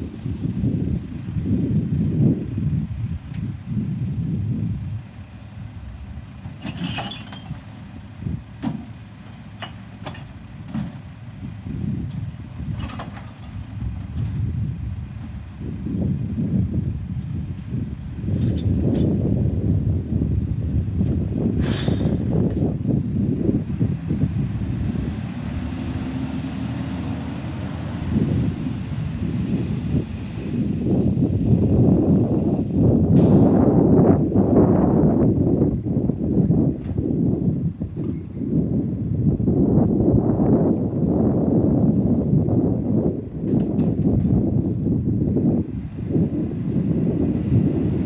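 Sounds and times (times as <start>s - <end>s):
garbage truck engine running: 0.0s - 48.0s.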